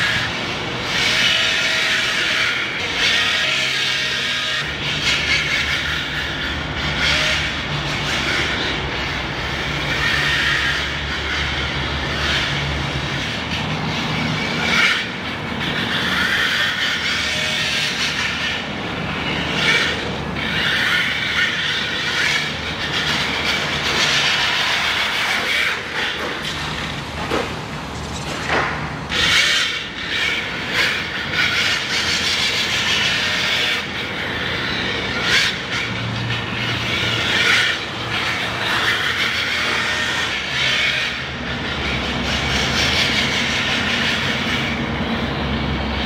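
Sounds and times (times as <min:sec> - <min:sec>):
toy car motor whirring: 0:00.0 - 0:27.0, 0:29.1 - 0:44.8.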